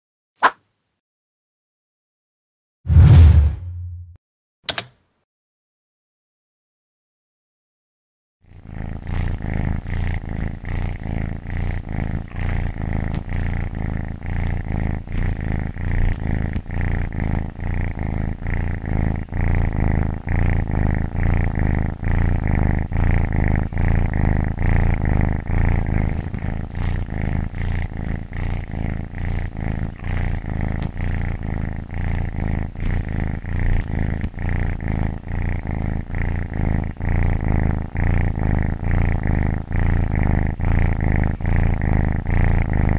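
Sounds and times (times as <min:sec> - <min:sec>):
cat purring: 0:08.4 - 0:42.9.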